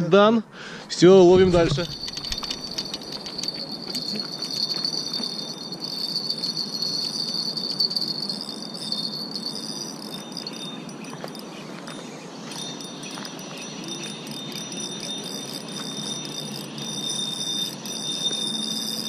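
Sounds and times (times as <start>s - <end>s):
insect trilling: 1.6s - 19.0s.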